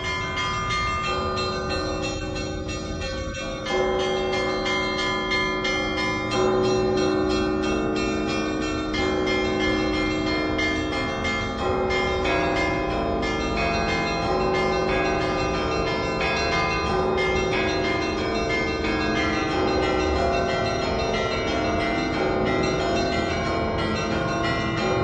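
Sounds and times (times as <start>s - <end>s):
church bells pealing: 0.0s - 25.0s.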